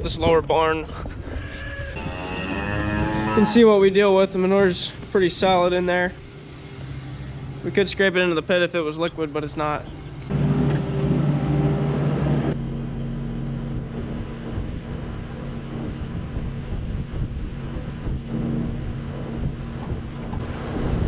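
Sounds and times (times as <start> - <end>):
tractor engine running: 2.0 - 21.0.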